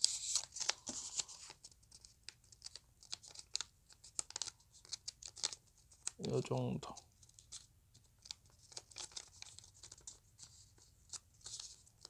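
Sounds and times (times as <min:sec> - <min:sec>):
paper crinkling as folded: 0:00.0 - 0:06.4, 0:07.1 - 0:12.0.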